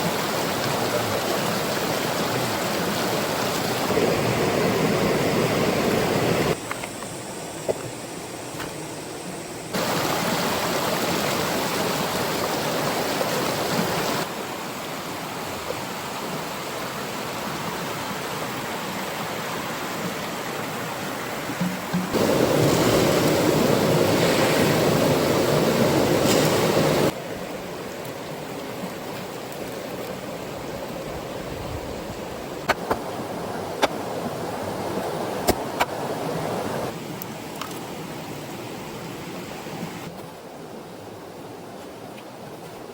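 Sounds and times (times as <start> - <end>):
stream and waterfall rushing: 0.0 - 6.6, 9.7 - 42.9.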